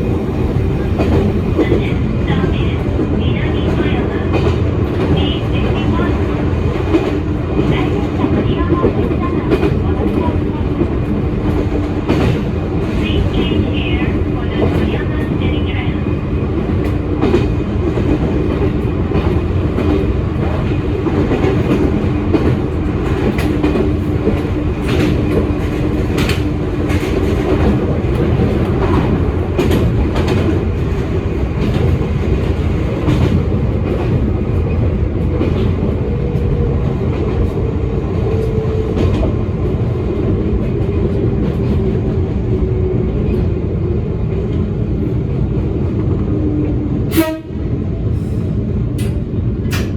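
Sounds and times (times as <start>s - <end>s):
train rumble: 0.0s - 49.9s.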